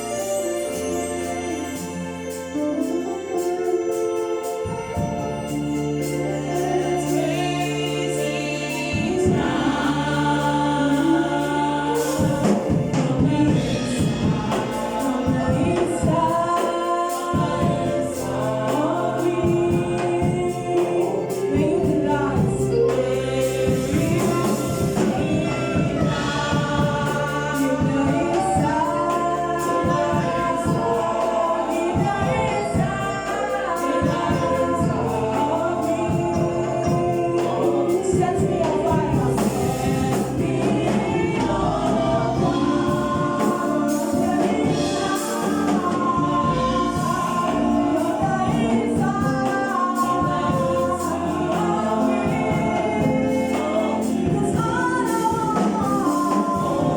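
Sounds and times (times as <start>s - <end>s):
choir singing: 0.0s - 56.9s
instrumental backing with bass: 0.0s - 56.9s.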